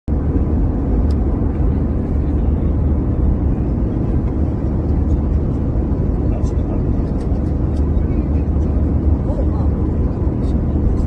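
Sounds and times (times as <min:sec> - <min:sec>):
airliner cabin drone: 0:00.1 - 0:11.0.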